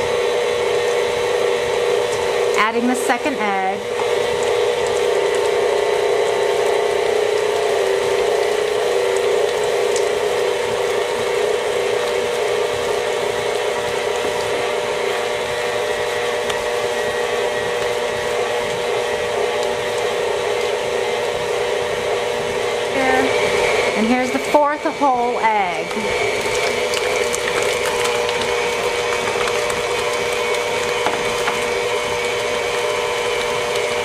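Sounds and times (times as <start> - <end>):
stand mixer humming: 0.0 - 34.0.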